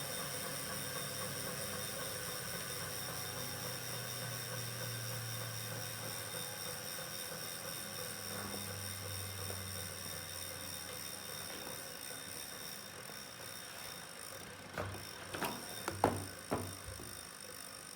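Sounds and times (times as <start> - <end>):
flywheel spinning hum: 0.0 - 17.9.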